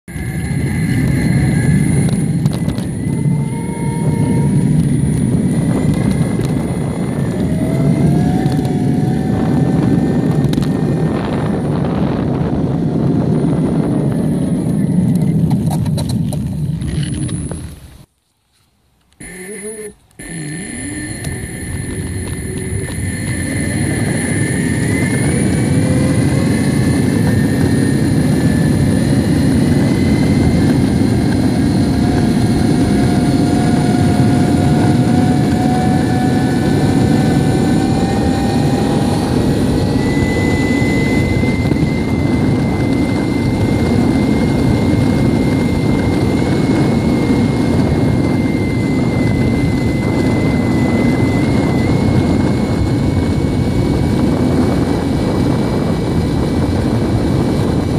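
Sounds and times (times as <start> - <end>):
electric motor whine: 0.1 - 18.1, 19.2 - 57.9
skateboard wheels rumbling on asphalt: 0.1 - 18.1, 20.2 - 57.9.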